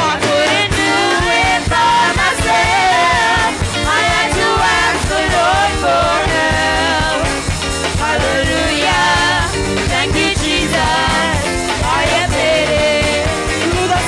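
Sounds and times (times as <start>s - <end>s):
band with drum kit: 0.0s - 14.0s
women singing gospel: 0.0s - 14.0s.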